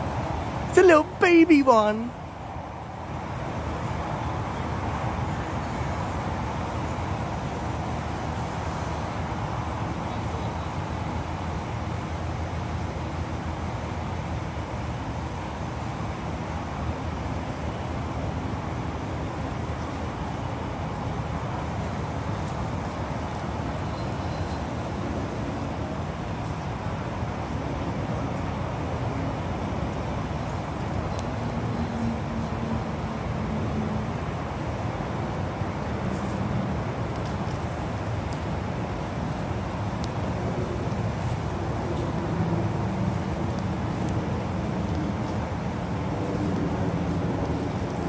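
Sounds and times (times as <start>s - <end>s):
low rumble of engines: 0.0s - 48.0s.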